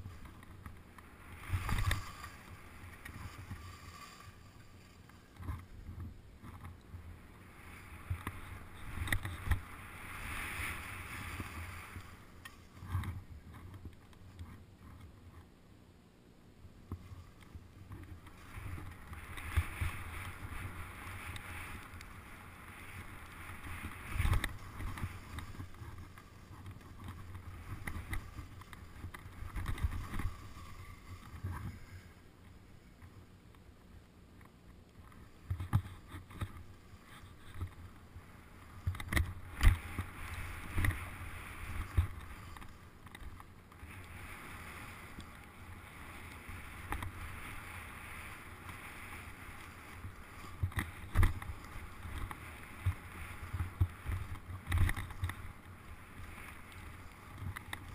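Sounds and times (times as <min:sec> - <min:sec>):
skis scraping over snow: 0:00.0 - 0:15.1, 0:16.9 - 0:33.2, 0:35.0 - 0:57.9
wind rumbling on microphone: 0:00.0 - 0:15.4, 0:16.7 - 0:34.0, 0:34.9 - 0:57.9.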